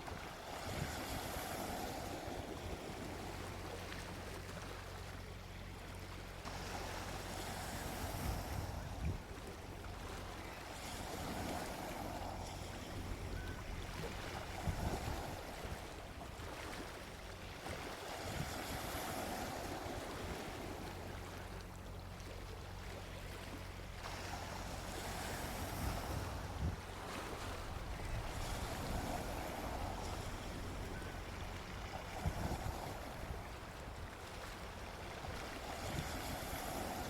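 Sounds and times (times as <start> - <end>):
sea waves washing onto beach: 0.0 - 37.0.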